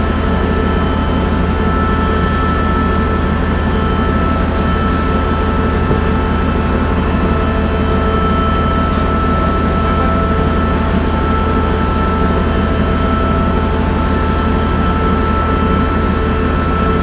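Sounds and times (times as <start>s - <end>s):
high whining tones: 0.0s - 17.0s
machinery drone: 0.0s - 17.0s.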